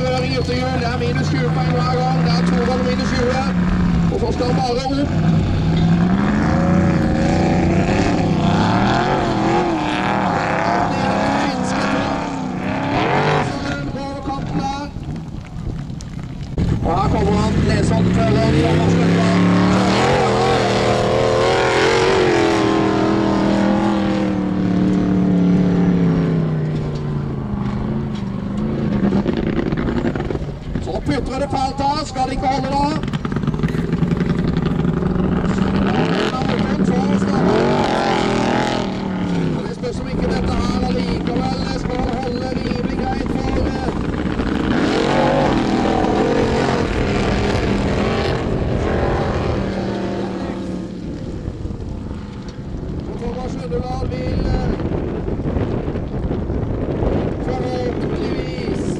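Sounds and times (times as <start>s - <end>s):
engine droning at high revs: 0.0s - 14.7s, 16.8s - 55.6s.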